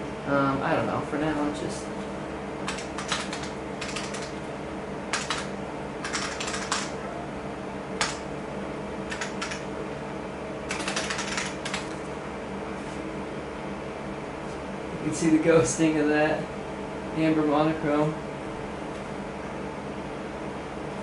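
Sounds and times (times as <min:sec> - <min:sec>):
computer hum: 0:00.0 - 0:21.0.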